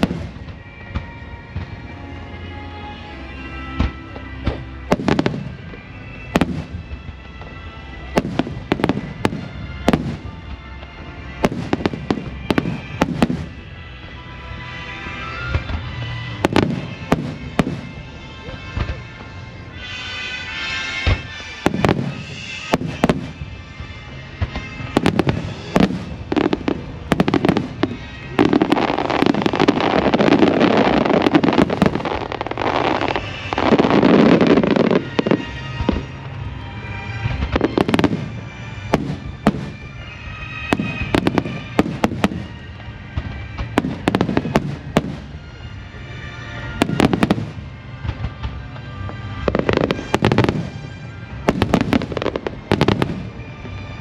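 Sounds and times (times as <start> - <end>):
fireworks bangs: 0.0 - 2.0, 3.7 - 13.8, 15.2 - 54.0
music: 0.0 - 54.0.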